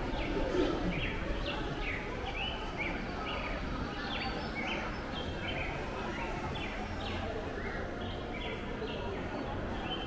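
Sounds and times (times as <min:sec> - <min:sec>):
low background noise: 0:00.0 - 0:10.0.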